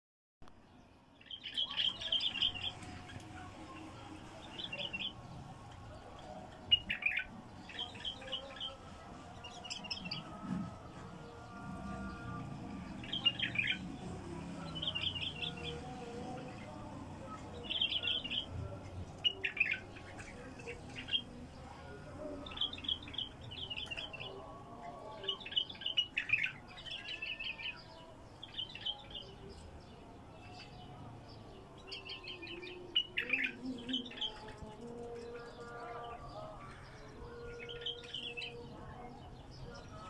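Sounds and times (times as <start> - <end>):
bird chirping: 0.4 - 40.0.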